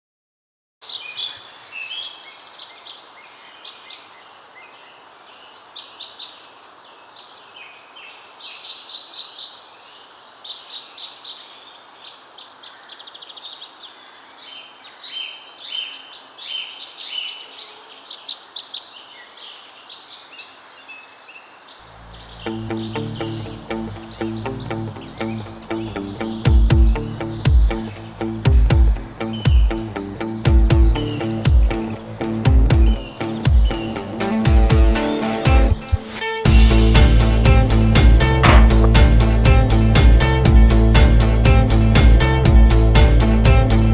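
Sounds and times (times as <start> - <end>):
birds chirping and singing: 0.8 - 36.5
steady background hiss: 0.8 - 36.5.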